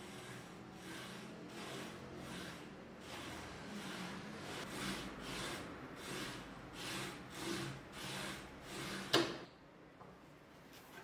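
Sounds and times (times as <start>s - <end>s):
screw tip scraping fibreboard: 0.0s - 9.2s.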